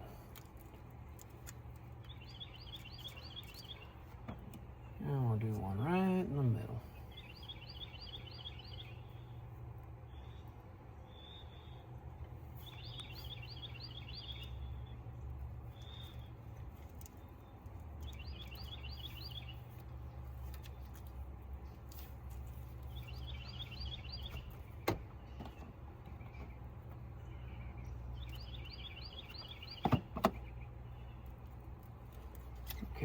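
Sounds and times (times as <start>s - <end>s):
low outdoor rumble: 0.0s - 33.0s
songbird chirping: 0.0s - 33.0s.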